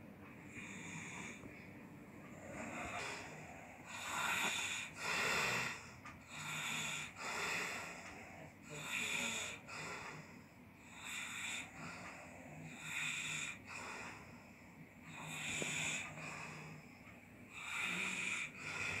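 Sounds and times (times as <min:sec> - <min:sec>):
man snoring: 0:02.3 - 0:14.3, 0:15.1 - 0:16.8, 0:17.5 - 0:19.0.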